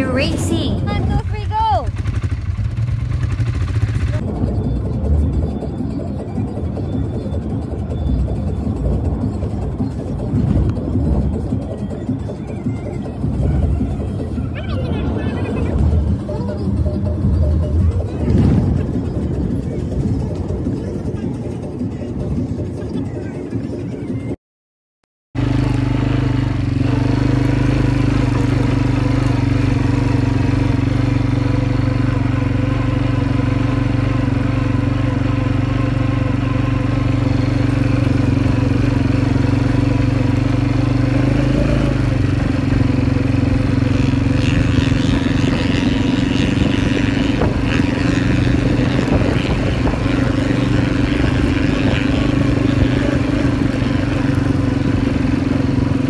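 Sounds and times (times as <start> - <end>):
quad bike engine: 0.0 - 24.4, 25.4 - 56.0.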